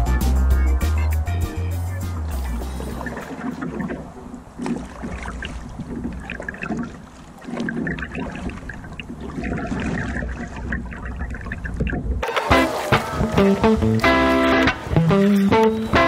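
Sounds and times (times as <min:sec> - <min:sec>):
water splashing around a boat: 0:02.2 - 0:16.0.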